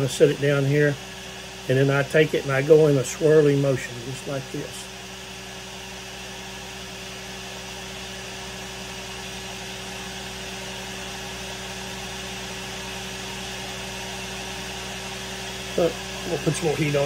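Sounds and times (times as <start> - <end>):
electric hum with airy whir: 0.0 - 17.0.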